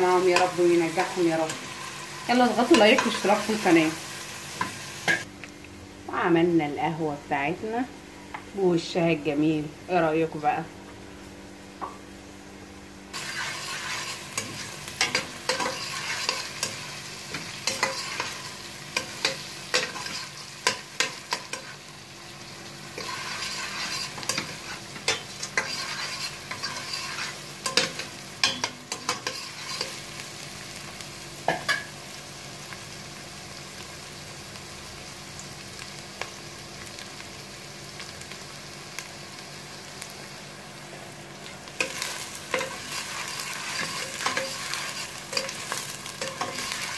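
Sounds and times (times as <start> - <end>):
onions sizzling in a pot: 0.0 - 46.9.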